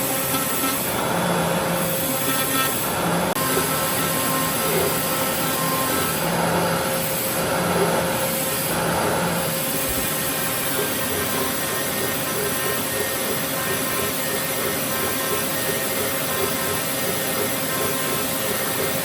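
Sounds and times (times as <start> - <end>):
router bit cutting wood: 0.0 - 19.0
router spindle high whine: 0.0 - 19.0.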